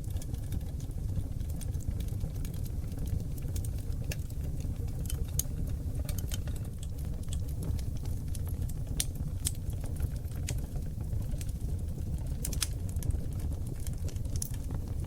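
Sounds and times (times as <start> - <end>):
crackles and pops of logs: 0.0 - 15.0
fire burning in a fireplace: 0.0 - 15.0.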